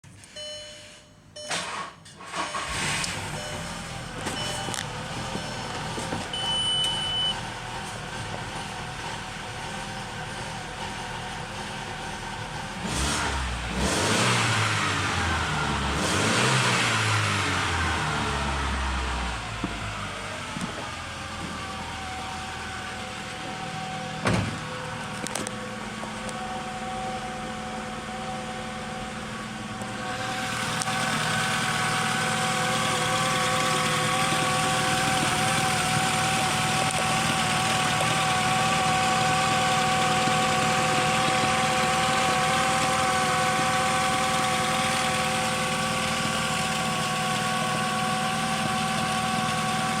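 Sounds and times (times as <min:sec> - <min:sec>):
van engine idling: 0:02.5 - 0:13.7, 0:17.0 - 0:50.0.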